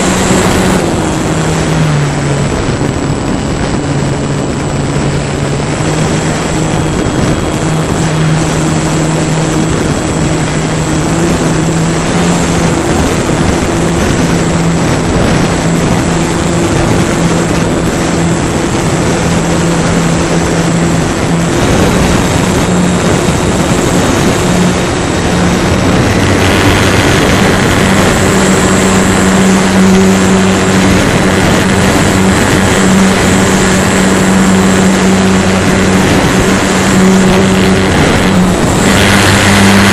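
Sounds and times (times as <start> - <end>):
model airplane motor and propeller: 0.0 - 39.9
wind rushing: 0.0 - 39.9.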